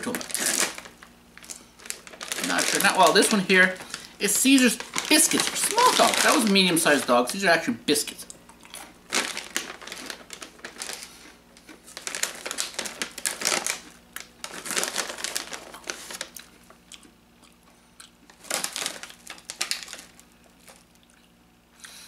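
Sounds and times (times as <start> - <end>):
packaging crinkling: 0.0 - 7.2, 8.7 - 16.8, 18.3 - 21.0.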